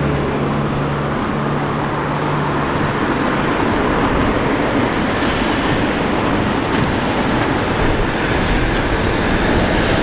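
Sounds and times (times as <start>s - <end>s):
car driving up close: 0.0s - 10.0s
vehicle engine humming: 0.0s - 10.0s.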